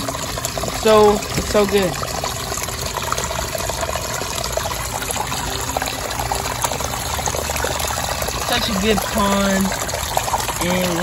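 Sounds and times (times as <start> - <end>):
waterfall splashing into pond: 0.0 - 11.0.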